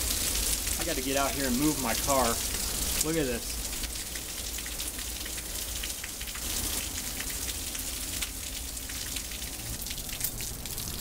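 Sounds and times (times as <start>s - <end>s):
heavy rain pouring: 0.0s - 11.0s
rain drops ticking: 0.0s - 11.0s.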